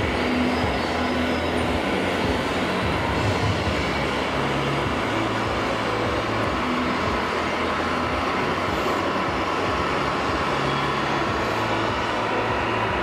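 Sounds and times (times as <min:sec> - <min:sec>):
model tractor running on tracks: 0:00.0 - 0:13.0.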